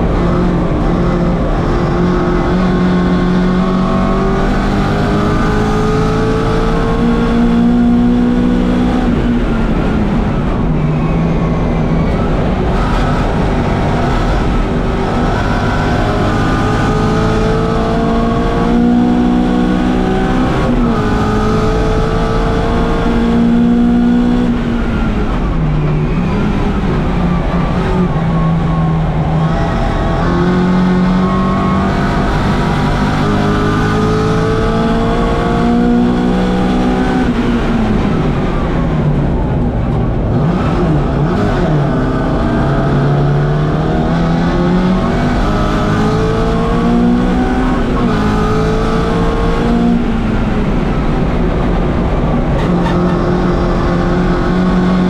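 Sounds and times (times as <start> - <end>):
car engine revving hard: 0.0 - 10.6, 11.4 - 39.4, 40.2 - 55.0.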